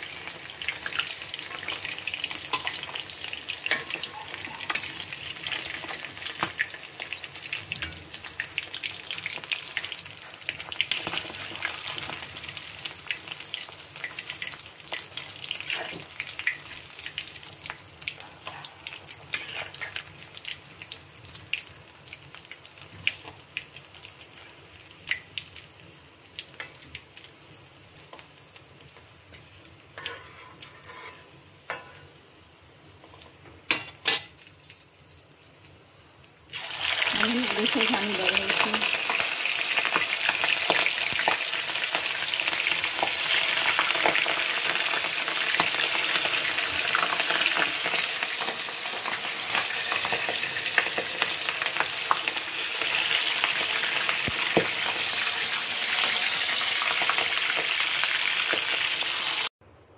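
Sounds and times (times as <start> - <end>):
fish frying in hot oil: 0.0 - 59.5.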